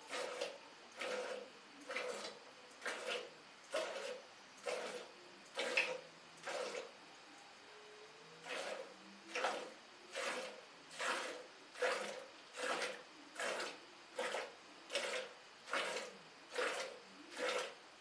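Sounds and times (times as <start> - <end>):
milk squirting into steel bucket: 0.0 - 6.9, 8.4 - 17.8.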